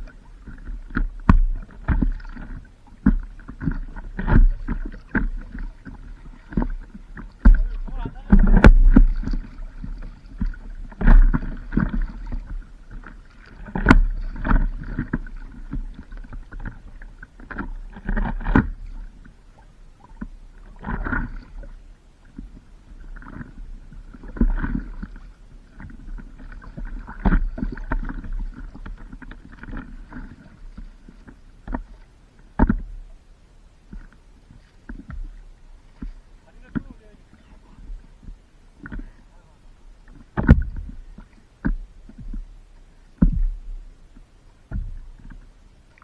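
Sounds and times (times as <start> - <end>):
paddle strokes splashing: 0.0 - 46.0
water sloshing around paddleboard: 0.0 - 46.0.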